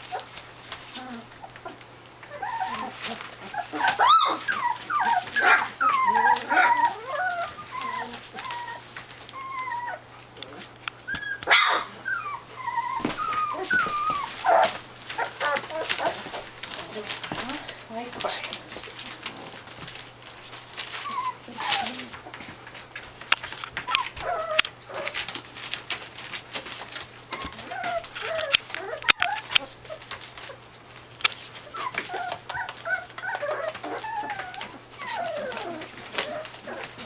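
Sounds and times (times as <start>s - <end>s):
paws scrambling over newspaper: 0.0s - 37.0s
puppies whimpering and squealing: 0.0s - 37.0s.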